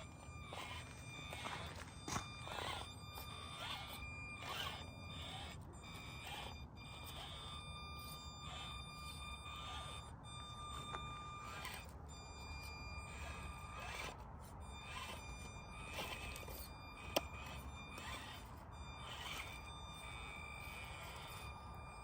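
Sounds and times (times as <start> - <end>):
tires scraping and clicking on ground: 0.0 - 8.7, 9.6 - 22.0
small electric motor whining: 0.0 - 22.0.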